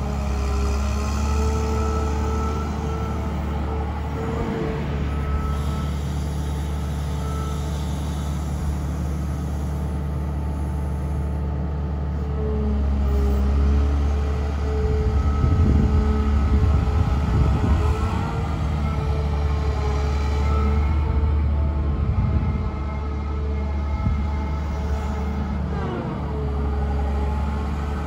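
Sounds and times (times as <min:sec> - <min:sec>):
hydraulic whine: 0:00.0 - 0:11.4, 0:12.1 - 0:28.0
diesel engine under load: 0:00.0 - 0:28.0.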